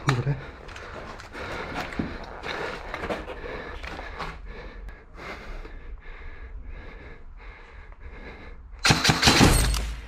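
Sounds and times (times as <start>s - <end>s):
person breathing hard: 0.0s - 9.1s.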